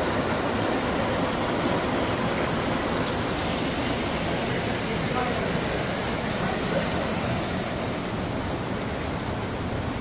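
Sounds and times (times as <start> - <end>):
creek water rushing over rocks: 0.0 - 10.0.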